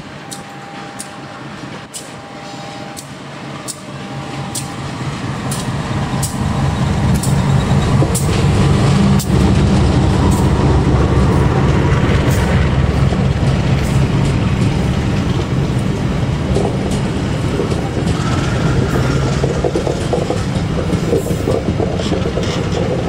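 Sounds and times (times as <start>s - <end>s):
train wheels clicking on rails: 0.0s - 23.0s
locomotive engine rumble: 0.2s - 23.0s.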